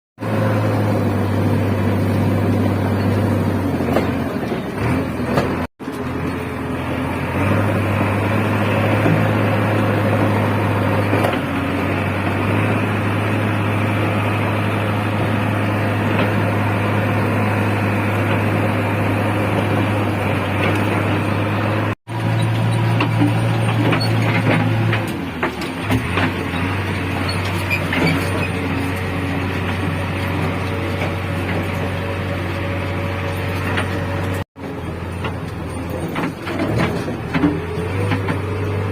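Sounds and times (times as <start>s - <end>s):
diesel engine droning: 0.2s - 38.9s.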